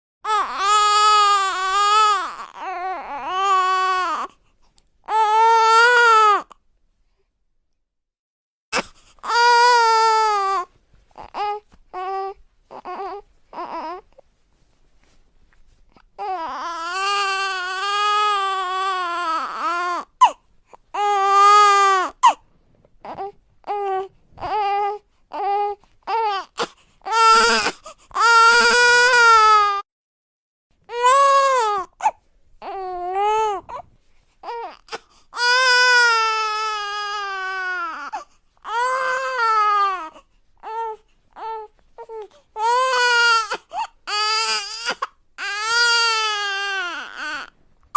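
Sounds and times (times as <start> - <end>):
baby crying: 0.3 - 4.3, 5.1 - 6.6, 8.8 - 14.1, 16.2 - 22.4, 23.0 - 29.9, 30.9 - 47.5.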